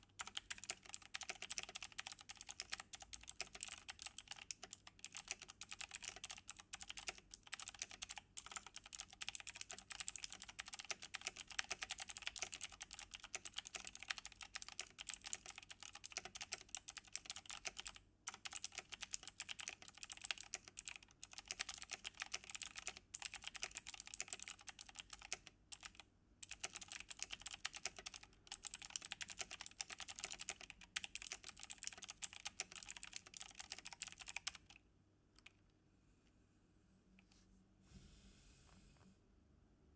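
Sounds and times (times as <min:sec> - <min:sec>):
mechanical keyboard typing: 0:00.0 - 0:35.6.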